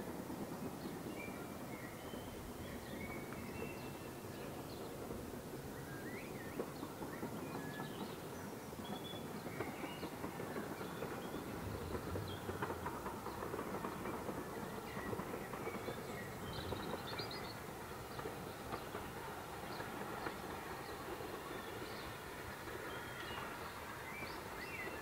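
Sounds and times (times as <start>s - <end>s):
distant steam train rumbling: 0.0s - 25.0s.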